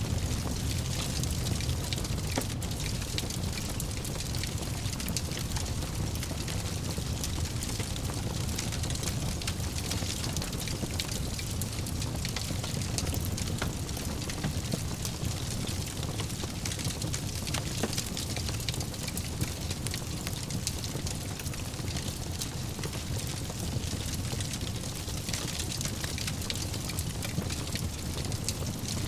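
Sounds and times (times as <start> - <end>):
fire crackling and popping: 0.0 - 29.0
low rumble of flames: 0.0 - 29.0.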